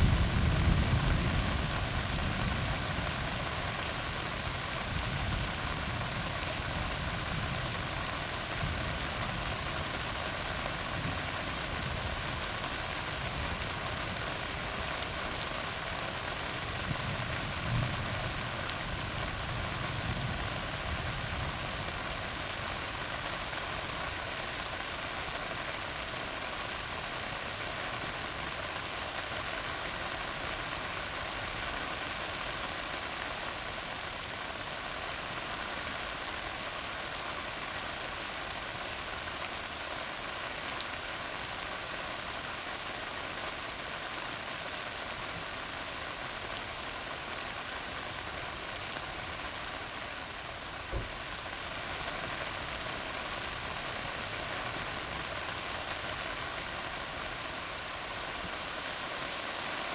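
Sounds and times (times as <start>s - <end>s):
rain on a road: 0.0s - 59.9s.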